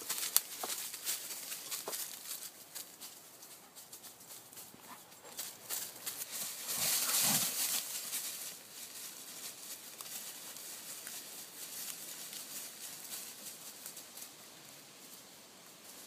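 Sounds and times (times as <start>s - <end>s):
footsteps crunching on leaves: 0.0s - 14.4s.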